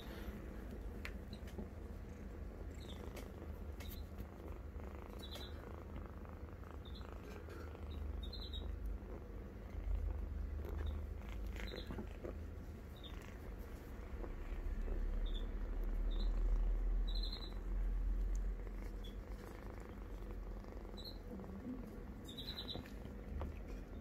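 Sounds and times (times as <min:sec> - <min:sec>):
kitten purring: 0:00.0 - 0:24.0.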